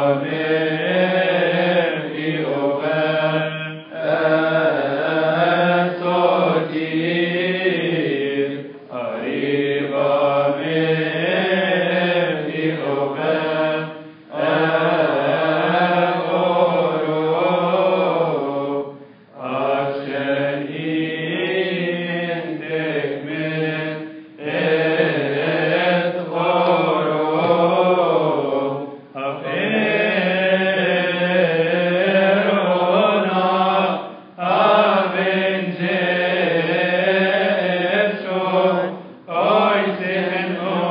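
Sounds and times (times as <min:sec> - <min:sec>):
voices singing a liturgical chant: 0:00.0 - 0:40.9.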